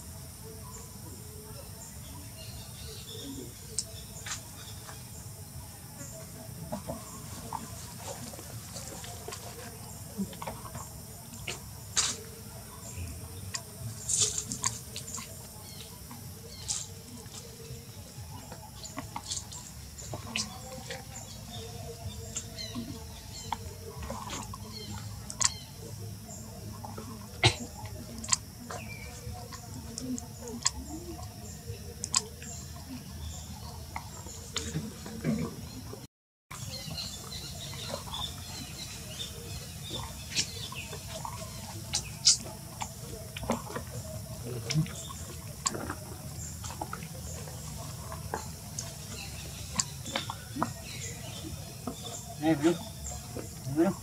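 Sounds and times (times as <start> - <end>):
faint steady background noise: 0.0 - 54.0.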